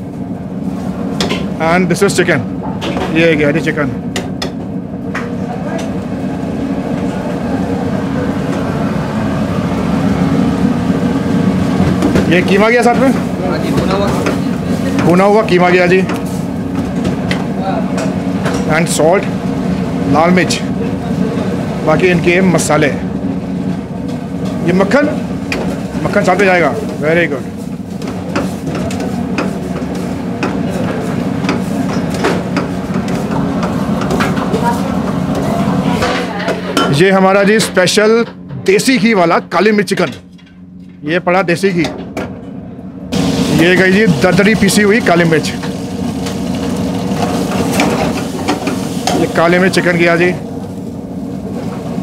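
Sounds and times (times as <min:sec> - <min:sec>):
gas burner roaring: 0:00.0 - 0:52.0
kitchen hum: 0:00.0 - 0:52.0.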